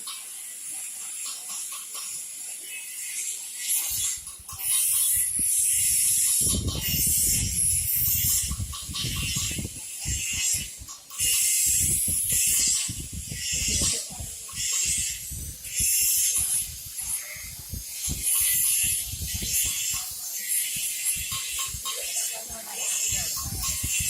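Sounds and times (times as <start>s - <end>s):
electric arc welding crackle: 0.0s - 24.0s.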